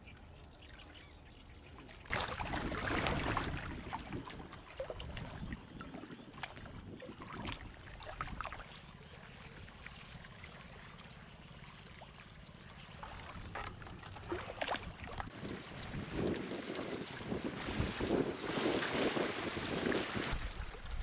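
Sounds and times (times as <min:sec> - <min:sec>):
small waves lapping and splashing: 0:00.1 - 0:21.0.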